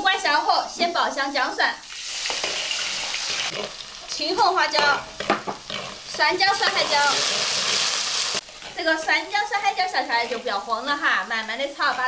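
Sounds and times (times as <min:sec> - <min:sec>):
garlic sizzling in hot oil: 0:00.4 - 0:12.0.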